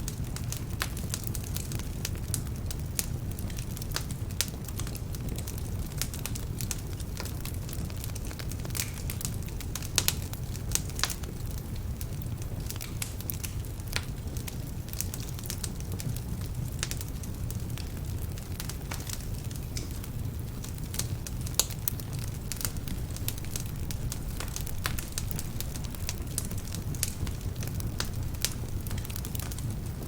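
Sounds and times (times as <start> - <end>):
fire crackling and popping: 0.0 - 30.0
low rumble of fire: 0.0 - 30.0.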